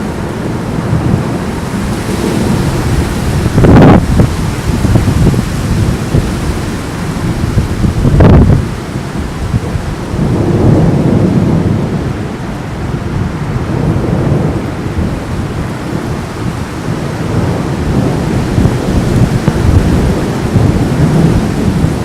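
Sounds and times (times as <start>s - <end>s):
rain hissing: 0.0s - 22.0s
thunder cracking and rumbling: 0.0s - 22.0s.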